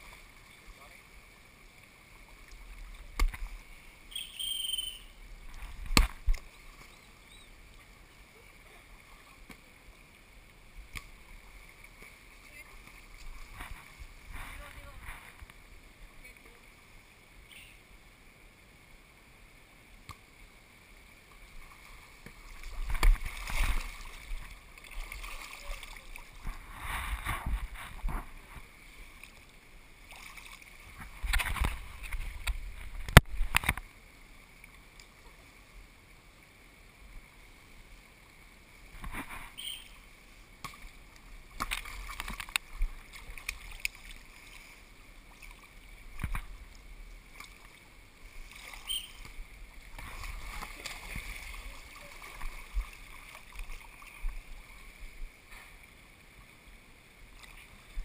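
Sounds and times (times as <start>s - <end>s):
pool water sloshing and splashing: 0.0s - 4.2s, 5.4s - 15.5s, 21.1s - 35.6s, 37.5s - 58.0s.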